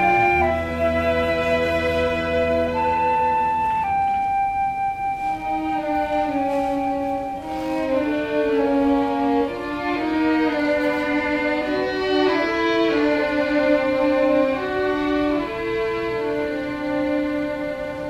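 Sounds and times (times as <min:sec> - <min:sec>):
string orchestra playing chords: 0:00.0 - 0:18.0.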